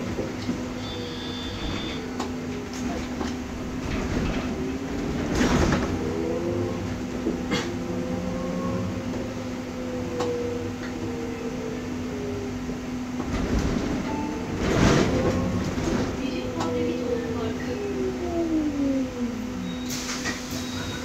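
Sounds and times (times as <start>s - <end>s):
electric bus hum and whine: 0.0s - 21.0s.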